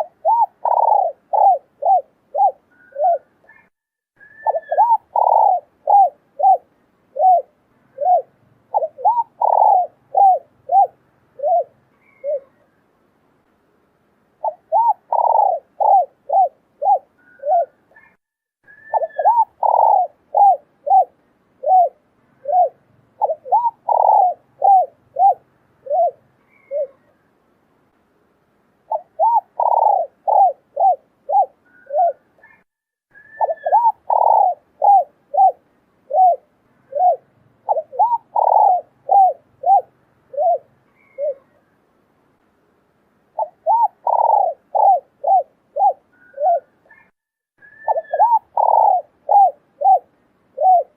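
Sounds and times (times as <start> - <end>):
doves cooing: 0.0 - 12.8, 14.4 - 27.2, 28.9 - 32.6, 33.2 - 41.6, 43.4 - 50.9.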